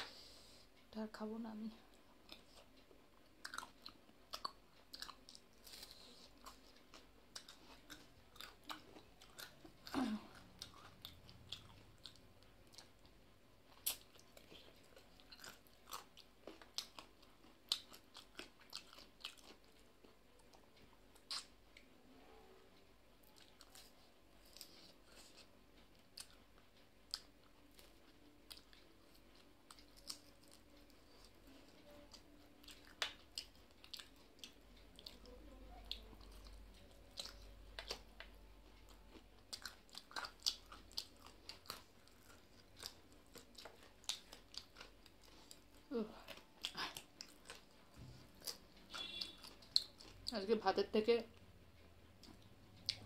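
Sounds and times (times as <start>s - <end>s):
person chewing with wet mouth clicks: 1.9s - 13.1s, 13.7s - 21.9s, 23.2s - 50.3s, 52.1s - 53.0s.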